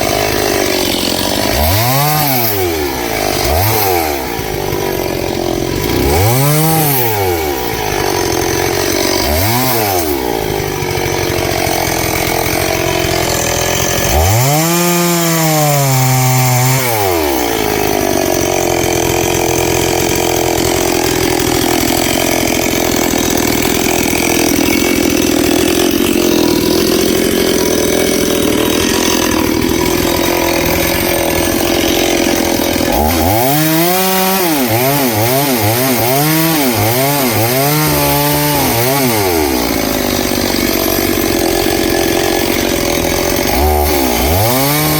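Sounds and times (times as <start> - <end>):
chainsaw revving and cutting log: 0.0 - 44.9.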